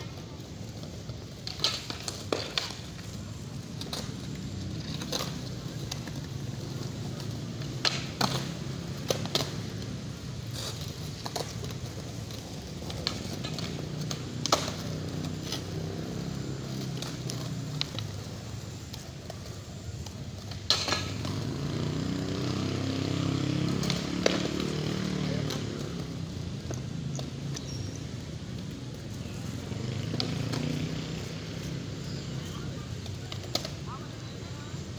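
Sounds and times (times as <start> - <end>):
skateboard clacks on ground: 0.0 - 34.9
skateboard wheels rolling on concrete: 0.0 - 34.9.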